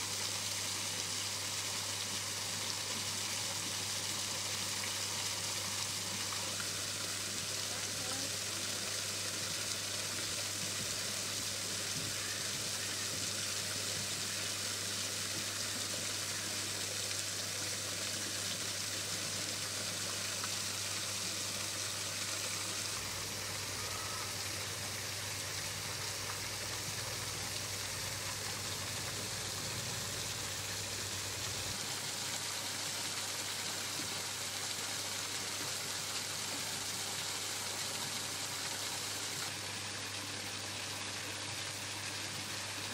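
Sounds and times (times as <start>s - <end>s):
hiss-like background noise: 0.0s - 42.9s.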